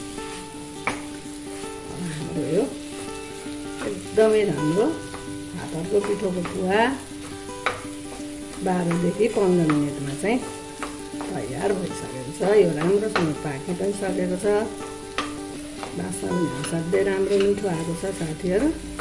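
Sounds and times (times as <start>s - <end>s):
light frying sizzle: 0.0s - 19.0s.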